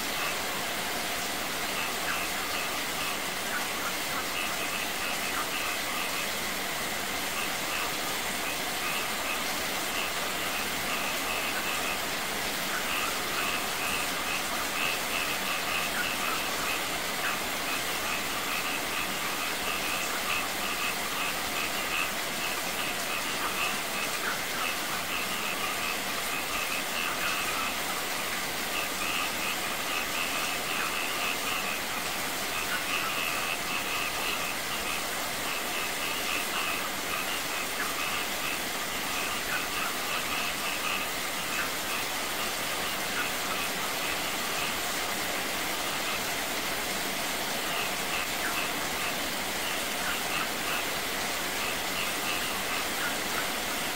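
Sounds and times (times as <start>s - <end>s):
rain splashing on a pool: 0.0s - 53.9s.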